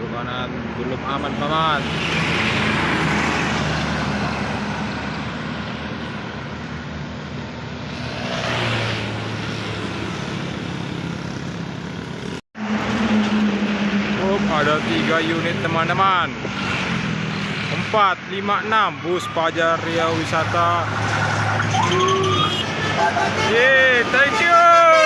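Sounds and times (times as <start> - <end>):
heavy road traffic passing: 0.0 - 25.0.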